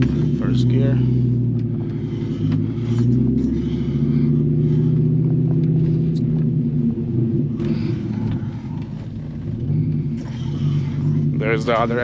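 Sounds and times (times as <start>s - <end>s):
truck engine pulling away: 0.0s - 12.0s.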